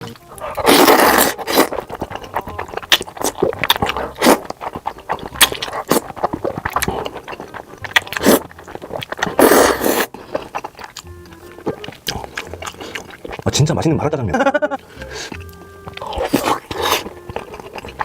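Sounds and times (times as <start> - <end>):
wet clicks and chewing: 0.0 - 13.9, 15.0 - 18.0
noodle slurping: 0.3 - 11.0, 11.6 - 13.5, 15.0 - 18.0.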